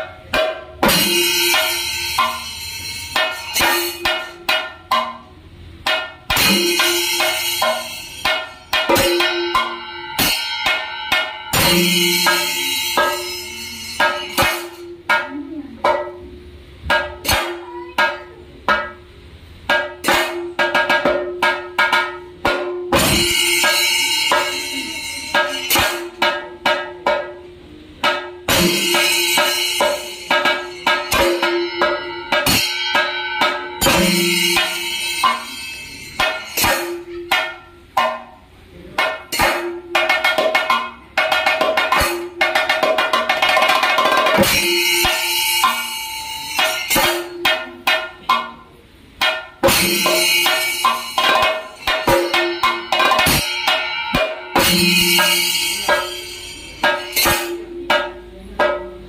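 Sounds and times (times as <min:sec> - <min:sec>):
cymbals clashing: 0:00.0 - 0:59.0
drums beaten with sticks: 0:00.0 - 0:59.0.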